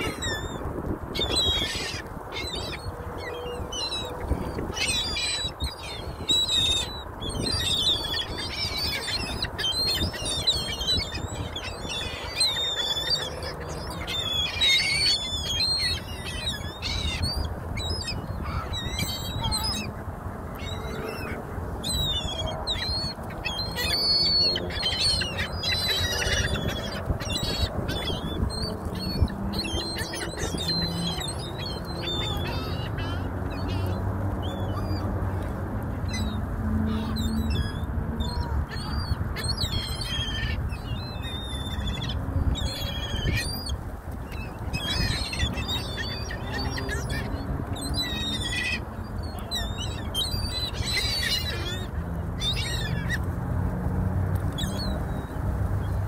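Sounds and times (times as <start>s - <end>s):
gulls calling: 0.0s - 56.0s.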